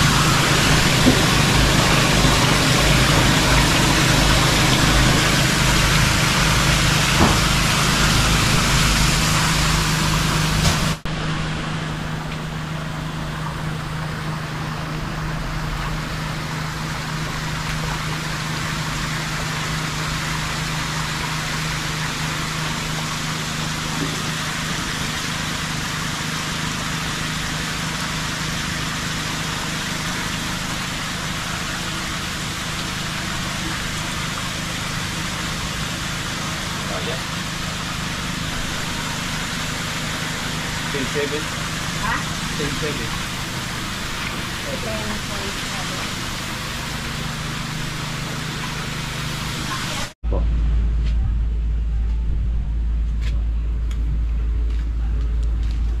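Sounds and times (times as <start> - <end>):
hiss of moving water: 0.0 - 11.0, 12.1 - 50.2
water churning and splashing: 0.0 - 50.2
circulation pump humming: 0.0 - 56.0.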